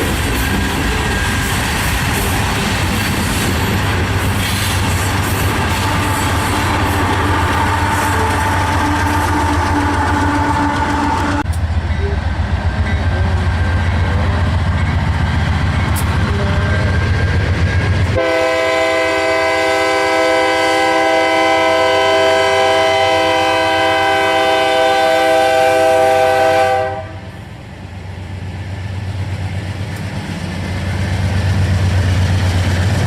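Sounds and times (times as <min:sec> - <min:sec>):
train wheels rumbling and clattering: 0:00.0 - 0:26.7, 0:27.3 - 0:33.0.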